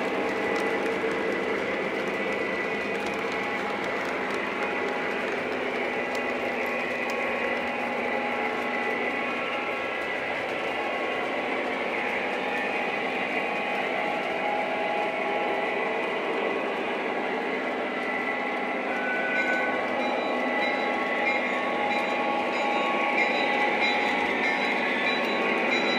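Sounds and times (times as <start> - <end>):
model trains running on track: 0.0 - 25.9.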